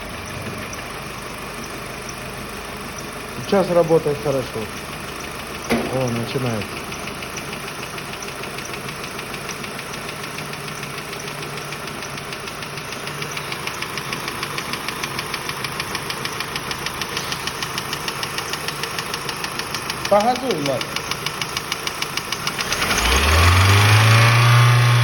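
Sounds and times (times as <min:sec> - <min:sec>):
rapid engine knock: 0:00.0 - 0:24.6
car engine idling: 0:00.0 - 0:25.0.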